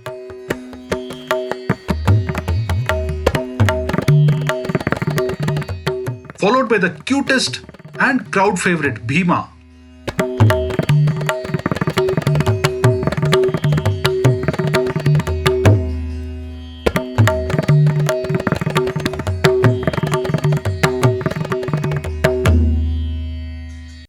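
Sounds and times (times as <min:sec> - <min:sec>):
hand drum strokes: 0:00.0 - 0:08.4, 0:10.1 - 0:16.0, 0:16.9 - 0:22.8.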